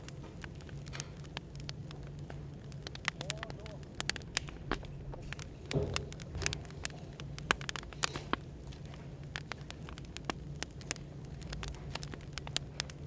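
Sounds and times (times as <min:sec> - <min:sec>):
low white noise hum: 0:00.0 - 0:13.0
wood fire crackling and popping: 0:00.0 - 0:13.0.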